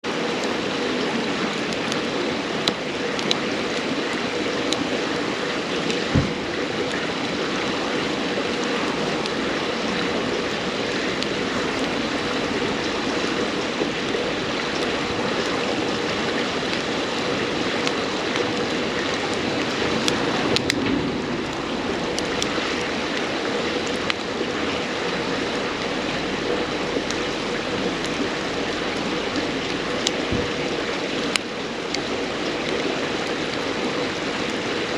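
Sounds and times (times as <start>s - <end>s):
campfire crackling and popping: 0.0s - 34.9s
river water flowing over rocks: 0.0s - 34.9s.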